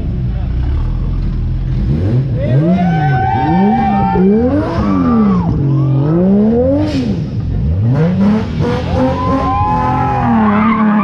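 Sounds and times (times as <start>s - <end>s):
sports car engine revving: 0.0s - 11.0s.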